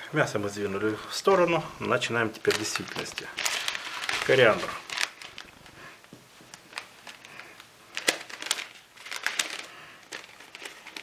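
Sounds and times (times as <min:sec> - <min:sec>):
plastic packet crinkling: 0:01.9 - 0:11.0.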